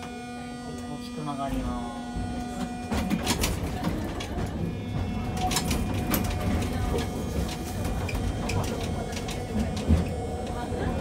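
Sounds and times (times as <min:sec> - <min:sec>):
tram running rumble: 0:00.0 - 0:11.0.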